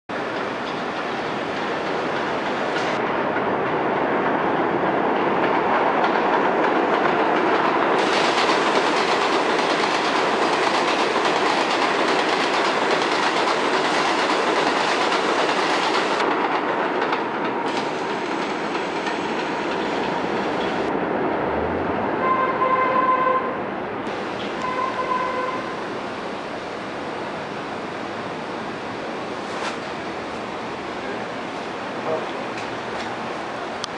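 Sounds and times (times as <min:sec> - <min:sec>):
train rumbling on elevated track: 0:00.1 - 0:33.9.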